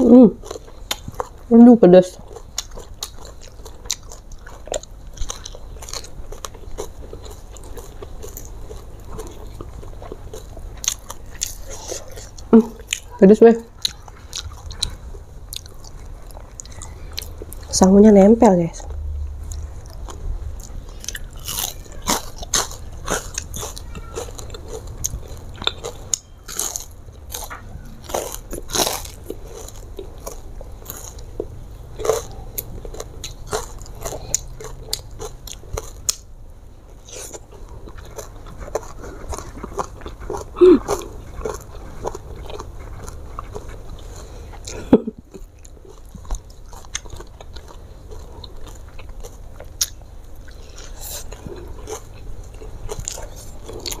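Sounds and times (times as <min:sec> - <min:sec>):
crunchy chewing: 0:00.0 - 0:17.8, 0:18.7 - 0:54.0.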